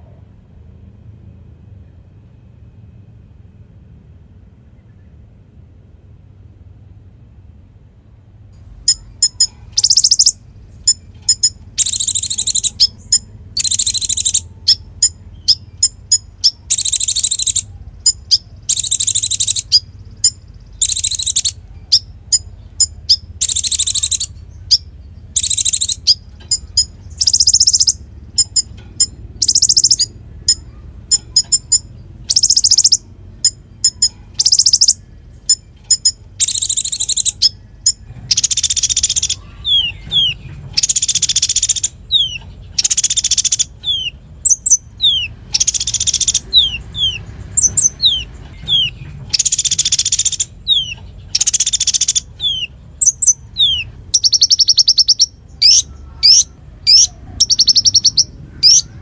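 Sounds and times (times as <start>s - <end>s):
bird high rapid trills: 8.6s - 59.0s
bird sharp chips: 8.8s - 59.0s.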